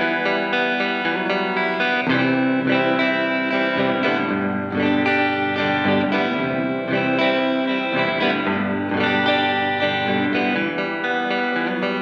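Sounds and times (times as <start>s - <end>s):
electric guitar with echoing reverb: 0.0s - 12.0s.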